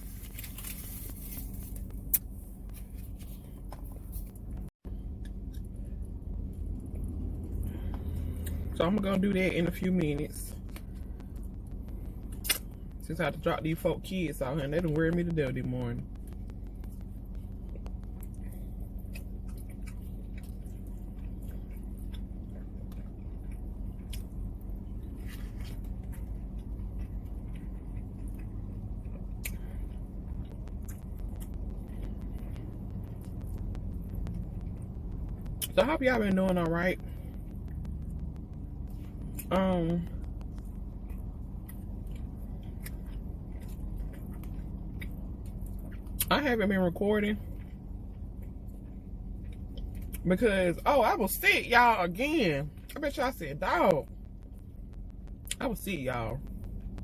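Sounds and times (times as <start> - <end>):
person chewing food: 0.0 - 8.8, 9.4 - 13.0, 14.5 - 35.8, 36.5 - 46.3, 47.4 - 50.3
car cabin low hum: 0.0 - 57.0.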